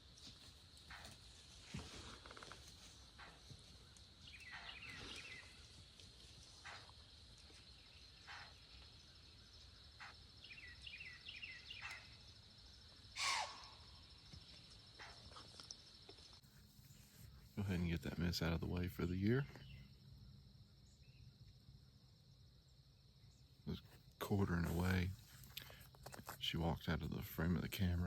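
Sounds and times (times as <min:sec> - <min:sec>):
insect hum: 0:00.0 - 0:28.0.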